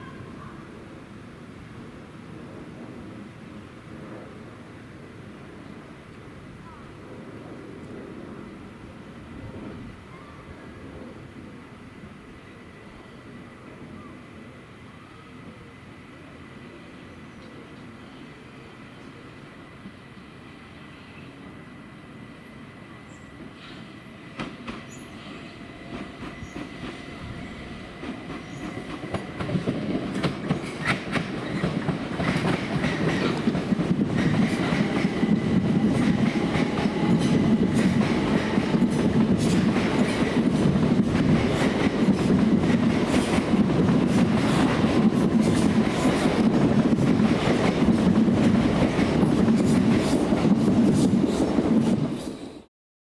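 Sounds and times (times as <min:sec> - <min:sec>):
train passing: 0:00.0 - 0:52.7.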